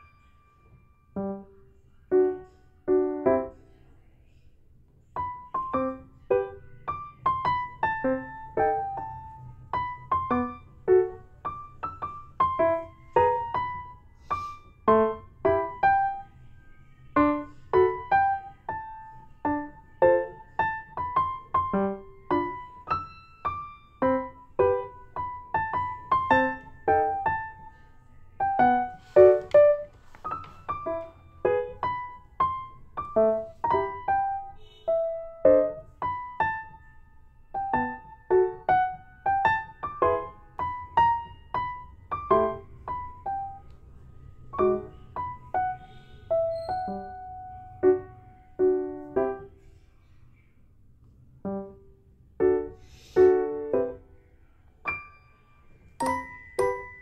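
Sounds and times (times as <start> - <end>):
gentle piano melody: 0.0 - 49.8, 50.4 - 57.0.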